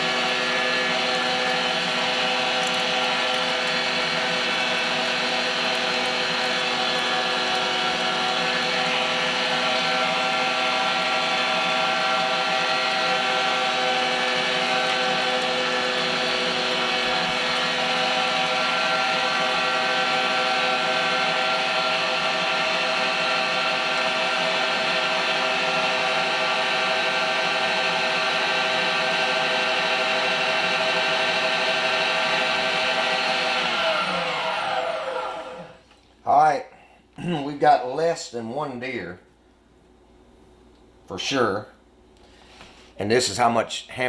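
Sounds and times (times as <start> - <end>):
meat grinder motor whining: 0.0 - 36.0.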